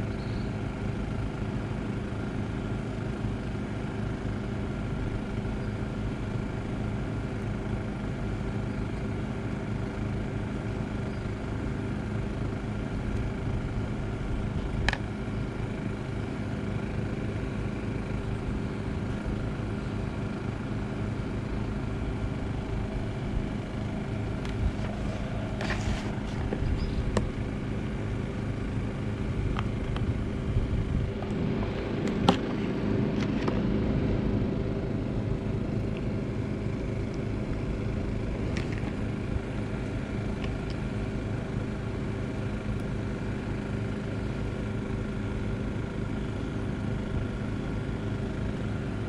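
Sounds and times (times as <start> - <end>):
low motor hum: 0.0 - 49.0.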